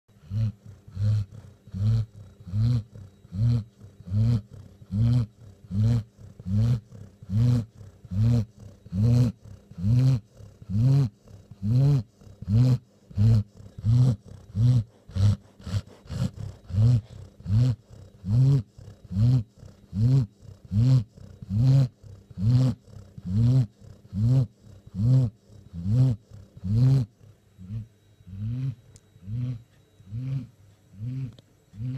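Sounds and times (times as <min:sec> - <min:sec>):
faint steady tone: 0:00.1 - 0:31.9
rhythmic snoring: 0:00.1 - 0:31.9.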